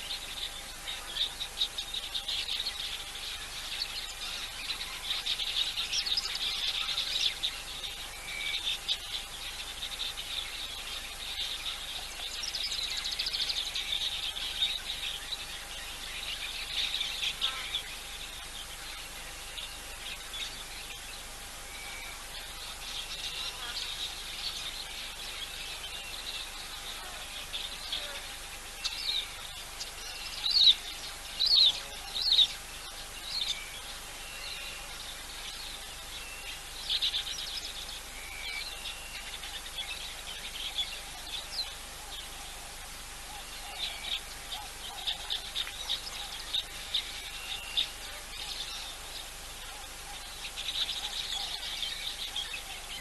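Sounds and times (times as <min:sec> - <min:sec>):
small birds chirping: 0:00.0 - 0:53.0
steady outdoor hiss: 0:00.0 - 0:53.0.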